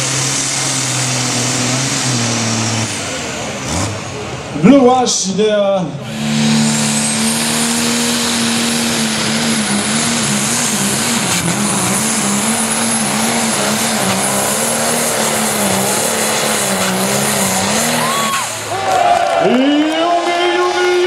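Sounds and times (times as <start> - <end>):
diesel engine at full throttle: 0.0 - 21.0
high engine whine: 0.0 - 21.0.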